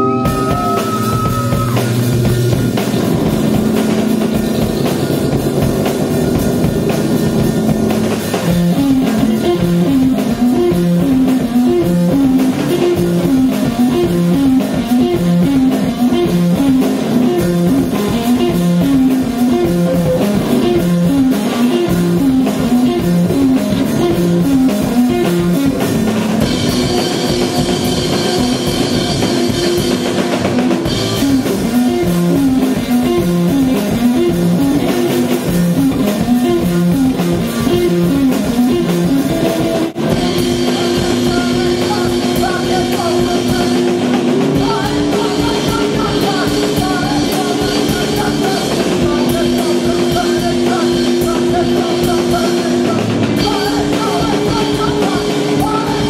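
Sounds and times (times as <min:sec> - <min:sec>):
bass guitar: 0:00.0 - 0:56.0
drum kit: 0:00.0 - 0:56.0
electric guitar riff: 0:00.0 - 0:56.0.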